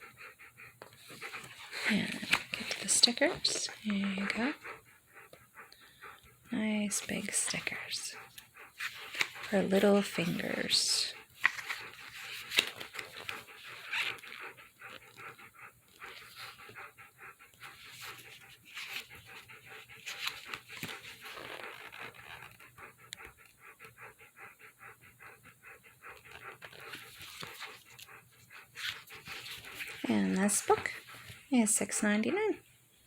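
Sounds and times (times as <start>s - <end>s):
dog panting: 0.0s - 33.0s.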